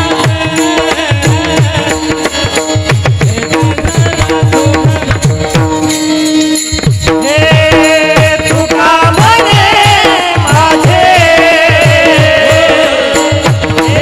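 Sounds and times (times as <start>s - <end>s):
tabla playing a rhythm: 0.0s - 14.0s.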